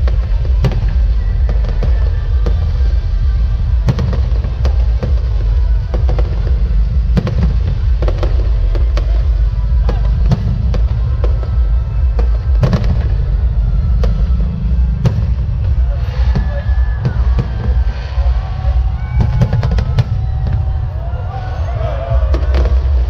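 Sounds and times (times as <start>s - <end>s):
continuous low rumble: 0.0s - 23.0s
fireworks bangs and crackles: 0.0s - 23.0s.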